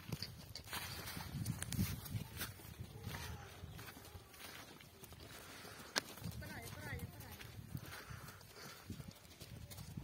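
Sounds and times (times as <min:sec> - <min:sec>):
goat hooves on ground: 0:00.0 - 0:10.0.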